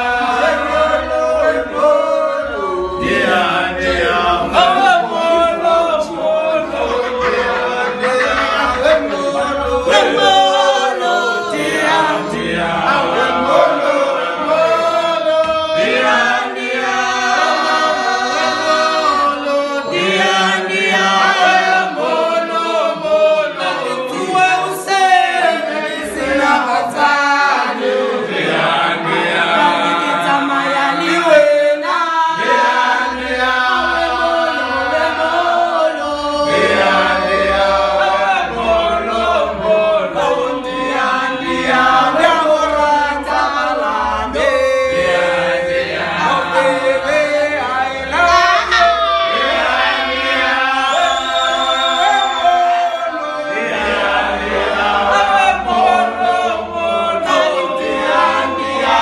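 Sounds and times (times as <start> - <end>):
men singing and chanting: 0.0 - 59.0.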